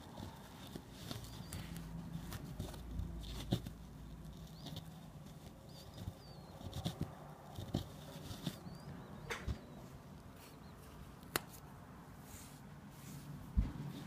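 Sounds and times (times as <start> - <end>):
soft rustling of wool: 0.0 - 14.0.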